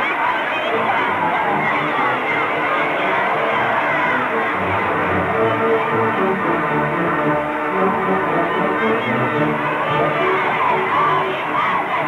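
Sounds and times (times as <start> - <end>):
crowd cheering and shouting: 0.0 - 12.0
newsreel background music: 0.0 - 12.0.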